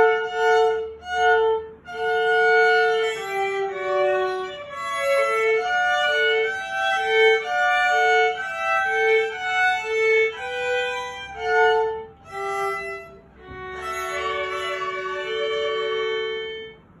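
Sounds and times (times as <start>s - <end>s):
violin duet: 0.0s - 17.0s.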